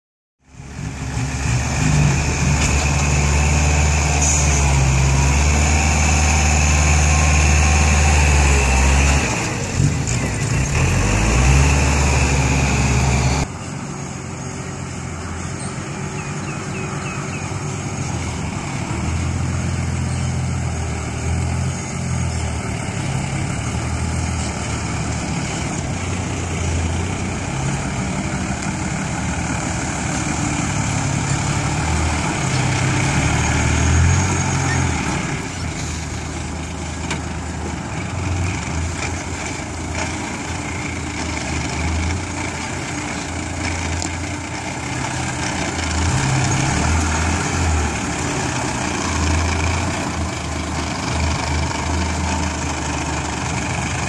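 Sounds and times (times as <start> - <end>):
diesel truck engine running: 0.4 - 54.0.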